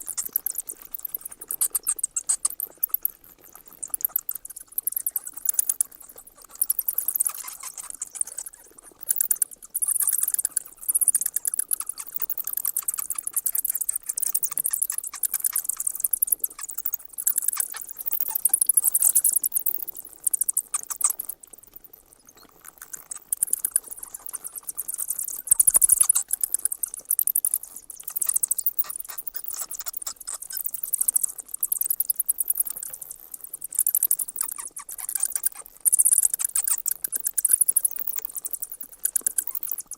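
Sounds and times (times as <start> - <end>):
bats squeaking: 0.0 - 39.9.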